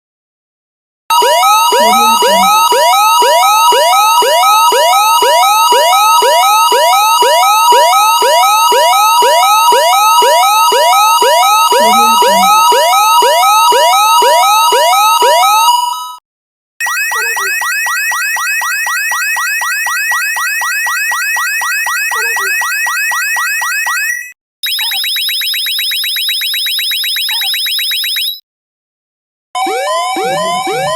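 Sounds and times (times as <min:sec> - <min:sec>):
alternating high alert tones: 0:01.1 - 0:16.0, 0:16.8 - 0:28.4.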